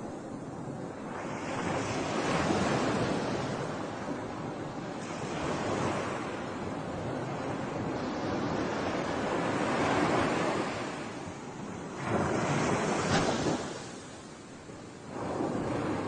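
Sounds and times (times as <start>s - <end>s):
sea waves breaking on shore: 0.0s - 16.0s
wind buffeting microphone: 0.0s - 16.0s.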